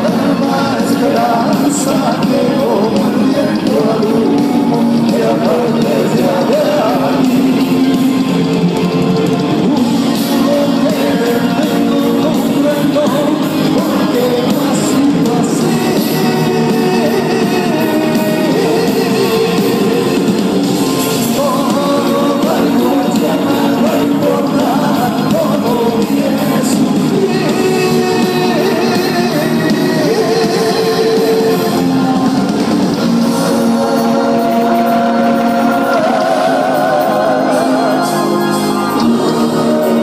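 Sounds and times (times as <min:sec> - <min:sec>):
drums: 0:00.0 - 0:40.0
electric guitars: 0:00.0 - 0:40.0
lead vocals: 0:00.0 - 0:40.0.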